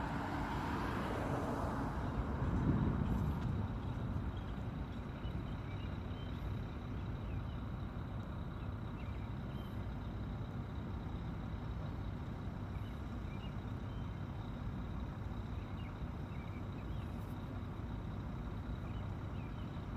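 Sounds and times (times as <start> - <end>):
urban traffic rumble: 0.0 - 19.9.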